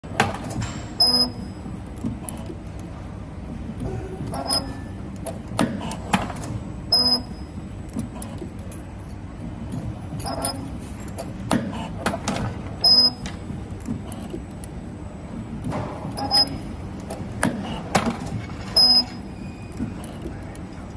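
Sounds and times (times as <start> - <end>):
machine running hum: 0.0 - 20.9.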